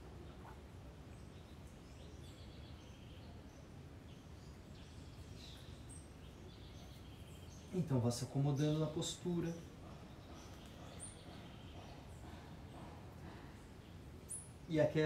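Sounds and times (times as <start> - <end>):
faint bird chirps: 0.0 - 14.7.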